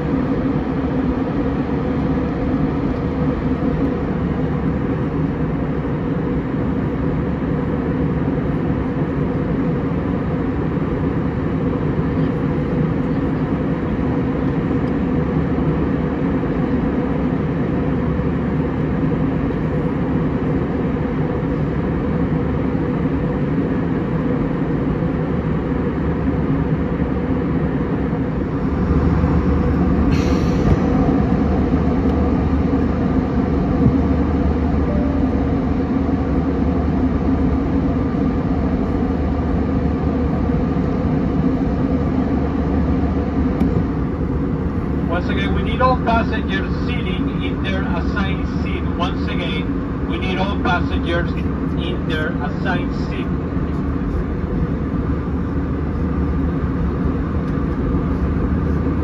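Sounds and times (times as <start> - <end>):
aircraft cabin engine noise: 0.0 - 59.0.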